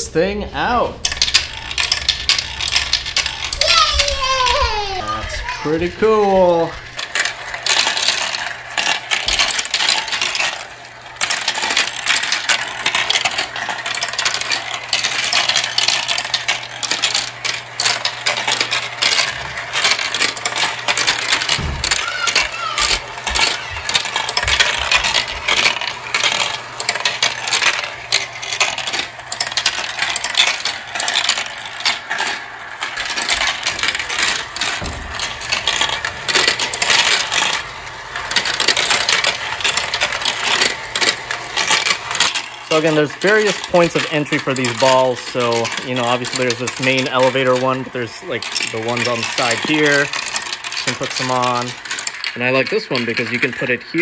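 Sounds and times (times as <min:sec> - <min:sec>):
marbles clattering on plastic track: 0:00.0 - 0:54.0.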